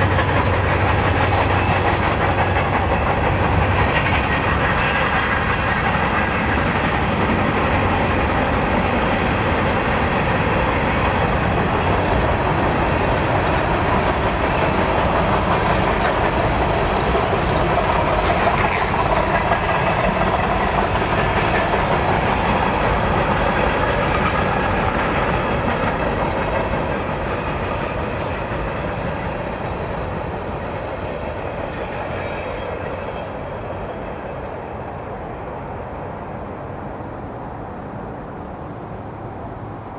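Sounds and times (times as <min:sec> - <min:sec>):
freight train rolling on rails: 0:00.0 - 0:39.9.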